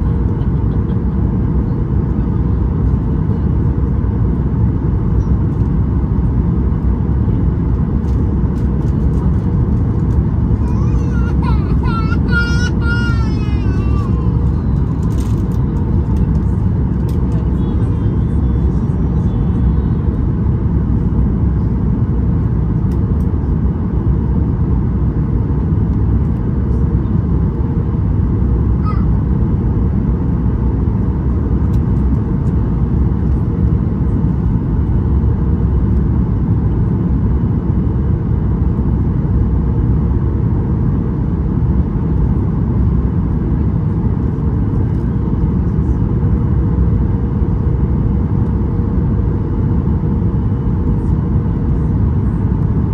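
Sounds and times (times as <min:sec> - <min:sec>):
aircraft cabin engine rumble: 0:00.0 - 0:52.9.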